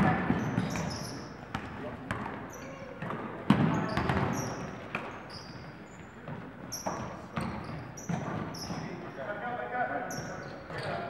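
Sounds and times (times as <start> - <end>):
basketball bouncing on court: 0.0 - 9.0
sneaker squeaks: 0.0 - 9.3, 10.0 - 11.0.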